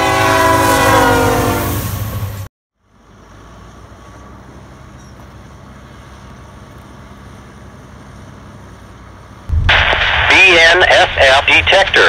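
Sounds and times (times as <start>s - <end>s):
distant diesel locomotive rumble: 0.0s - 12.0s.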